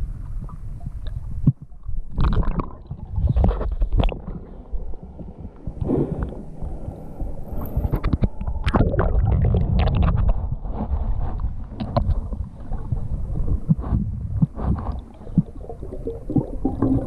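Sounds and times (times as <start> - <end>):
underwater water rumbling: 0.0 - 17.0.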